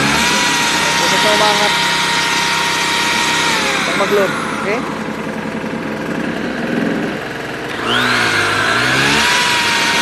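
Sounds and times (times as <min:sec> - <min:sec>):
electric drill whine: 0:00.0 - 0:10.0
generator engine running: 0:00.0 - 0:10.0.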